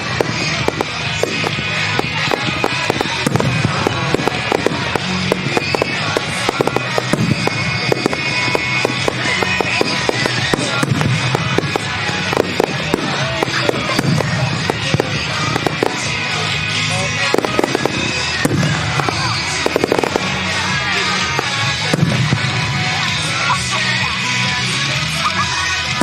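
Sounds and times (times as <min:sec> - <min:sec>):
fireworks bangs and crackles: 0:00.0 - 0:26.0
music over loudspeakers: 0:00.0 - 0:26.0.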